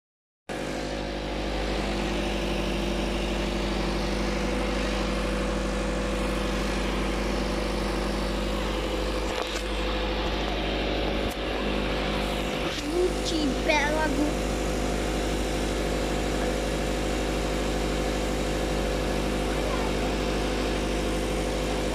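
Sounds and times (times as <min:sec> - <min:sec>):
truck engine idling: 0:00.9 - 0:21.9.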